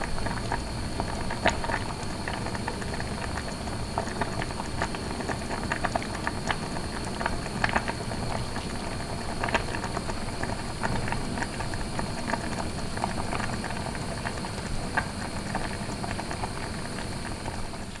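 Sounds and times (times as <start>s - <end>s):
food boiling with bubbling pops: 0.0s - 18.0s.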